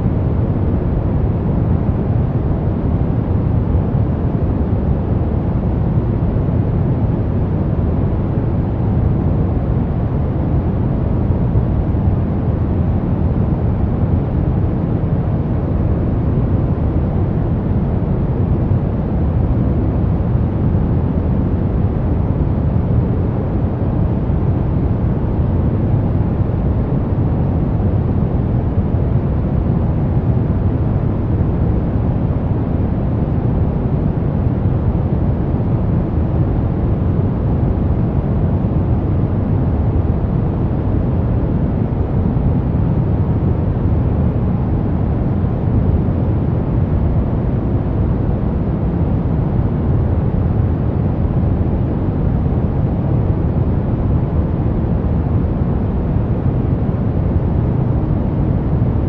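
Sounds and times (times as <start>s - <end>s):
deep rumbling brown noise: 0.0s - 59.0s.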